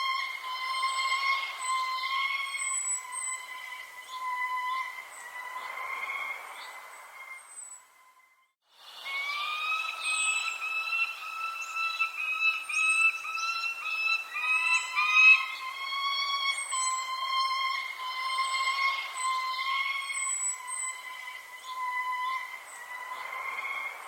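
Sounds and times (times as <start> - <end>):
birds chirping: 0.0 - 24.0
steady whistling tone: 0.0 - 24.0.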